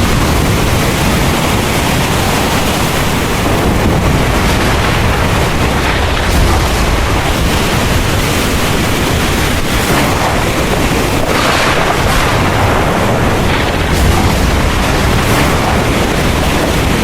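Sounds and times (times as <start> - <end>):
heavy rain pouring: 0.0 - 17.0
thunder rumbling: 0.0 - 17.0.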